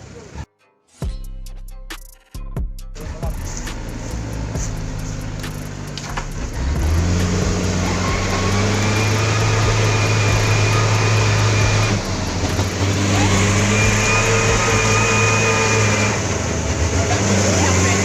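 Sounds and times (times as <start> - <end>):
diesel engine labouring: 3.0 - 18.0.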